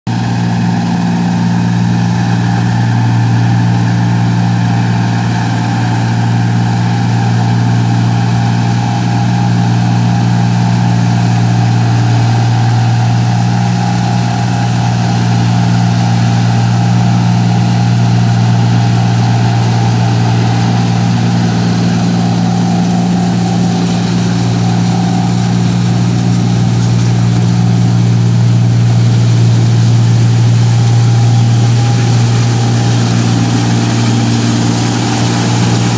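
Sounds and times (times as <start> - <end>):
machine engine running: 0.1 - 35.9.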